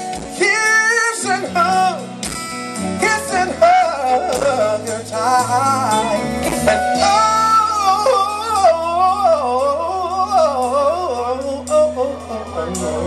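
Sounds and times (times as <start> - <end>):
acoustic guitar: 0.0 - 13.0
electric bass: 0.0 - 13.0
man singing: 0.0 - 13.0.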